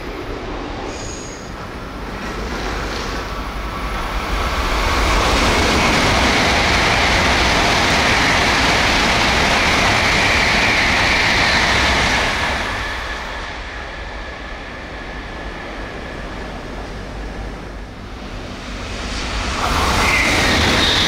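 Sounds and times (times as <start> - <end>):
high-speed train roaring past: 0.0 - 21.0.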